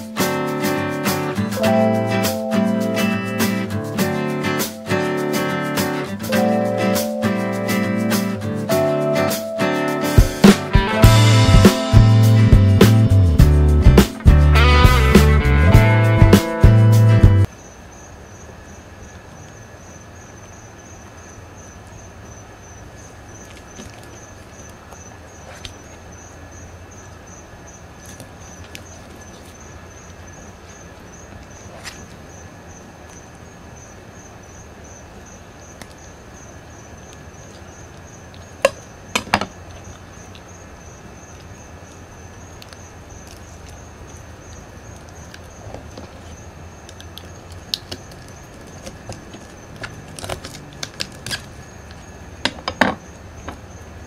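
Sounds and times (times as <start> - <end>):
high insect trill: 0.0 - 54.0.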